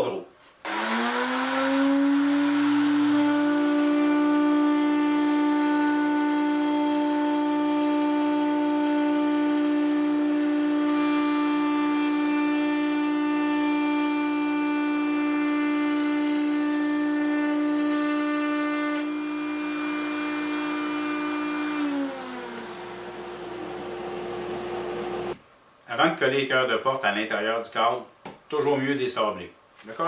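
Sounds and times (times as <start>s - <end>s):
router motor spinning down: 0.7s - 25.4s
router motor whining: 0.7s - 25.4s.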